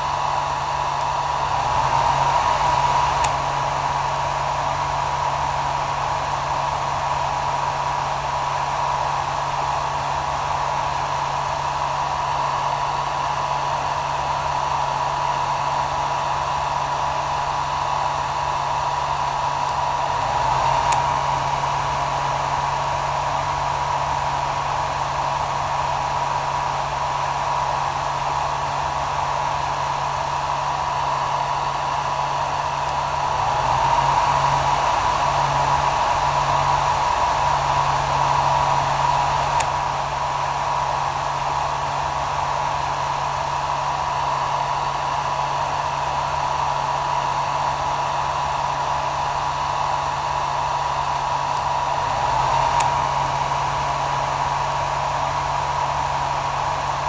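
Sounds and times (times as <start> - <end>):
hair dryer blowing air: 0.0 - 57.0.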